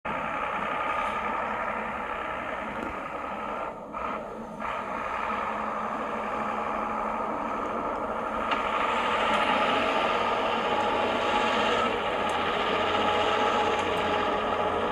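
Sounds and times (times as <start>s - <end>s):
vehicle motor running off-road: 0.0s - 14.9s.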